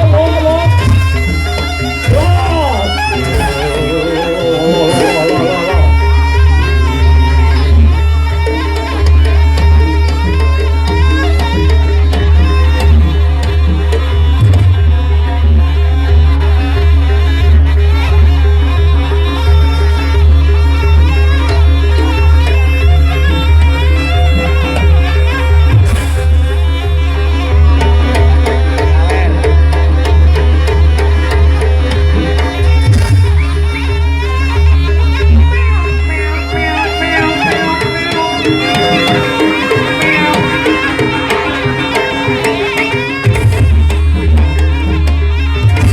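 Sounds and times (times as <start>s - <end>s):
wavering reed melody: 0.0s - 14.0s, 19.4s - 45.9s
heavy steady bass: 0.0s - 42.3s, 43.2s - 45.9s
hand drums: 0.0s - 45.9s.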